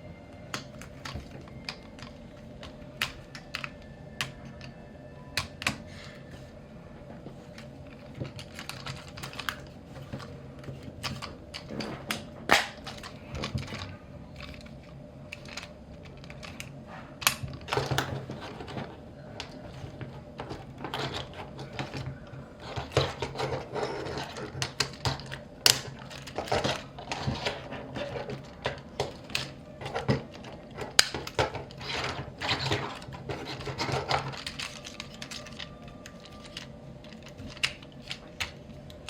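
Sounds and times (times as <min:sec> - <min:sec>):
plastic toy parts clicking and snapping: 0:00.3 - 0:04.8, 0:05.4 - 0:05.9, 0:07.4 - 0:39.0.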